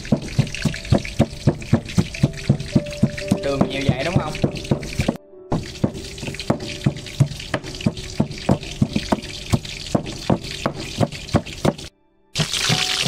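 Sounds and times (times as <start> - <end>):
pestle thudding in stone mortar: 0.0 - 12.9.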